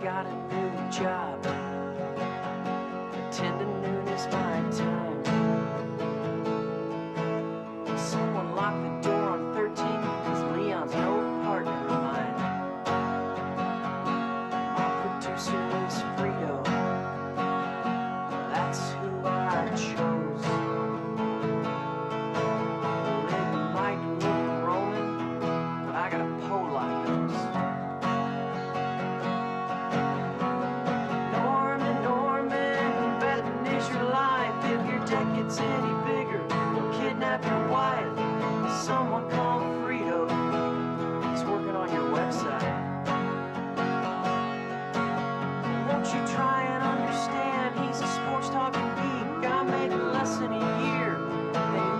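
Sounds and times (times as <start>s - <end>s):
acoustic guitars strumming: 0.0s - 51.9s.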